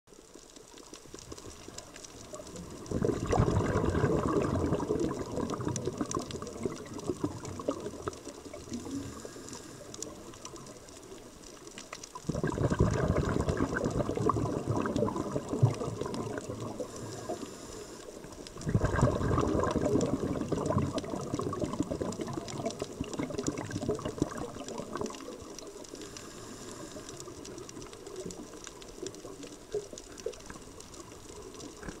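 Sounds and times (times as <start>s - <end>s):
fine underwater crackling clicks: 0.1s - 32.0s
diver's exhaled bubbles gushing: 1.3s - 10.9s, 12.1s - 32.0s.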